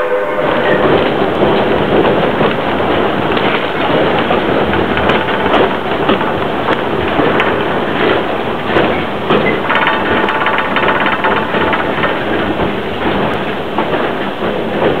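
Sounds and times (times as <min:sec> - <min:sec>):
train cars clattering: 0:00.0 - 0:15.0.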